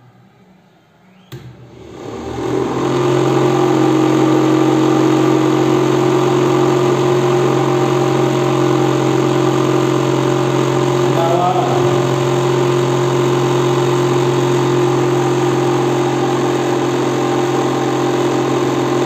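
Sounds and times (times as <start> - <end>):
motor fan humming: 1.6 - 19.0.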